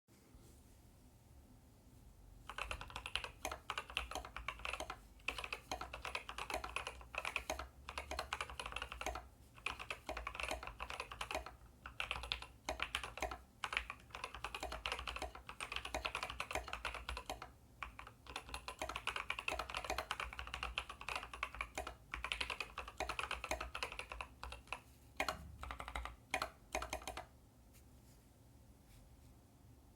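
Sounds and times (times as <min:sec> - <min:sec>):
mechanical keyboard typing: 0:02.5 - 0:27.3.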